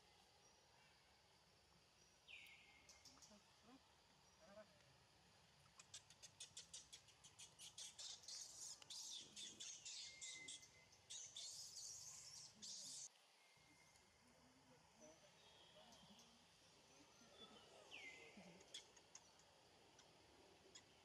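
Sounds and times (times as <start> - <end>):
faint high-pitched chirping: 0.0 - 4.8, 5.6 - 21.0.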